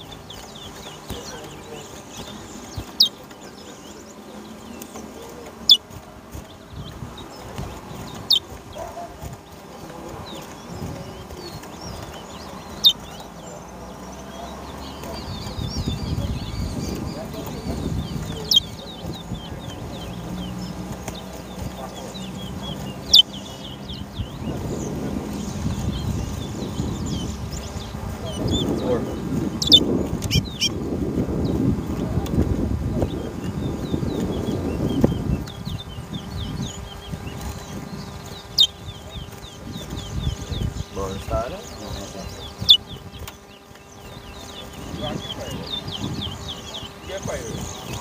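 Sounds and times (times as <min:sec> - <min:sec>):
finches chirping: 0:00.0 - 0:48.0.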